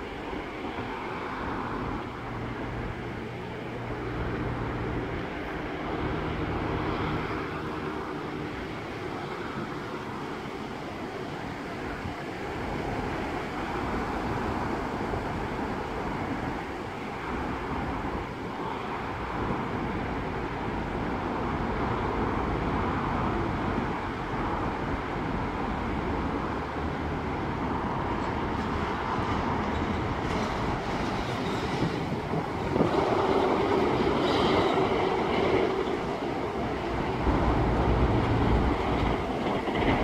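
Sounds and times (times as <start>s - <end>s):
train rumbling on track: 0.0s - 40.0s.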